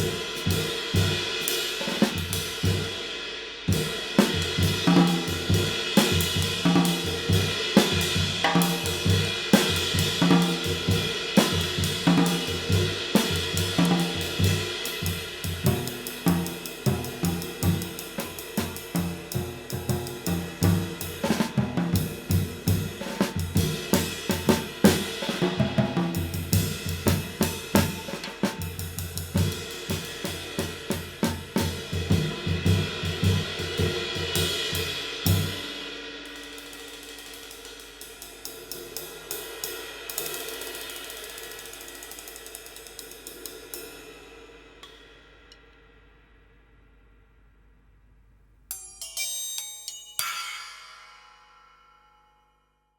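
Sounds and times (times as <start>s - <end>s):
drum kit groove: 0.0s - 45.1s.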